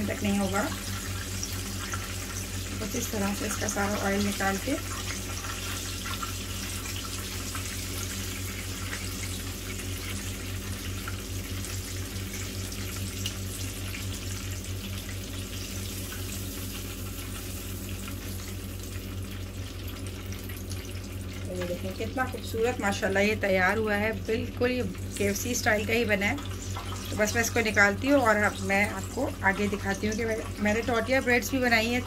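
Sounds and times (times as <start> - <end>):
chicken sizzling in hot oil: 0.0 - 32.0
constant low hum: 0.0 - 32.0.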